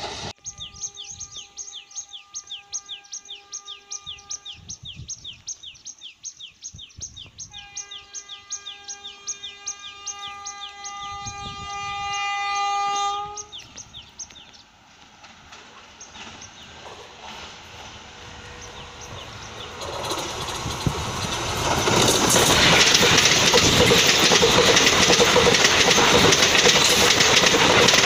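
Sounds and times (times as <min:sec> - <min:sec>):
soft train running noise: 0:00.0 - 0:05.8, 0:07.1 - 0:28.0
rhythmic chirping of railway track: 0:00.0 - 0:28.0.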